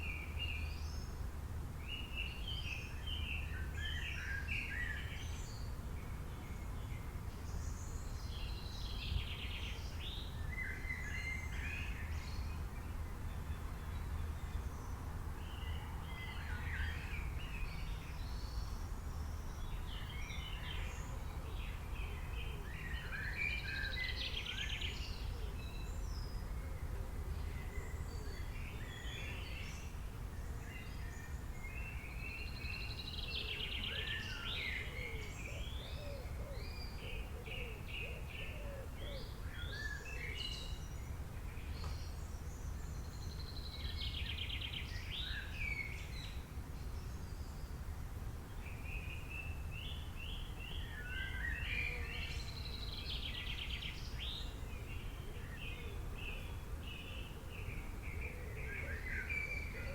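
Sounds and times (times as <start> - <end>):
wild birds singing and chirping: 0.0 - 59.9.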